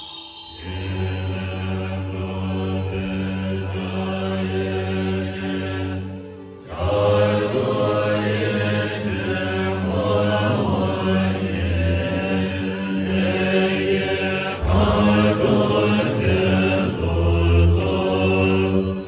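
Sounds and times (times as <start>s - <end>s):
monks chanting in unison: 0.6s - 19.0s.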